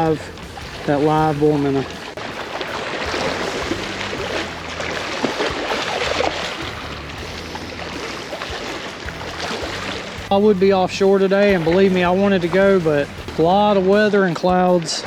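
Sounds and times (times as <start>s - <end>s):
water rushing at a seawall: 0.0s - 15.0s
wind: 0.0s - 15.0s.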